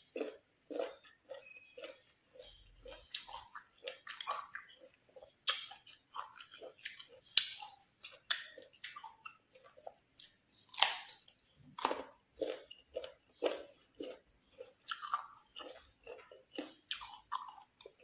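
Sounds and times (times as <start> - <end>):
chewing crisp mango: 0.0 - 18.0.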